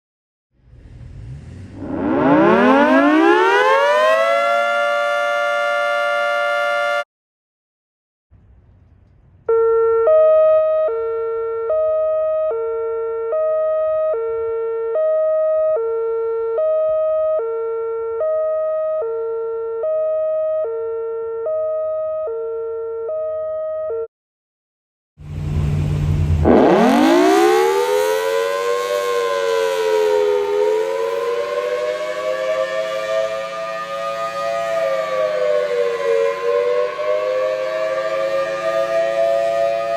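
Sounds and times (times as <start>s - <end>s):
wind-up siren: 1.8s - 7.0s, 9.5s - 24.1s, 26.4s - 39.9s
two-tone siren: 1.8s - 7.1s, 9.4s - 24.1s, 26.2s - 39.9s.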